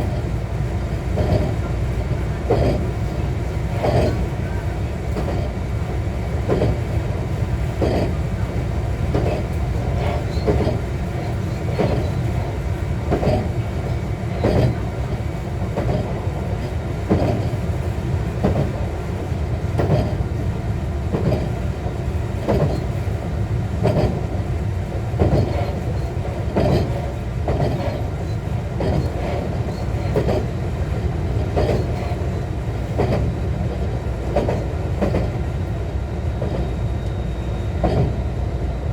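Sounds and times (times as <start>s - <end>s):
train wheels clicking over rail joints: 0.0s - 38.2s
low train rumble: 0.0s - 38.9s.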